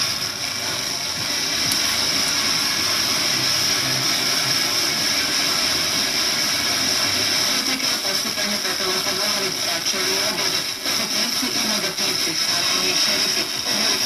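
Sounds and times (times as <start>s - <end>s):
faint radio programme: 0.0s - 14.0s
radio static hiss: 0.0s - 14.0s.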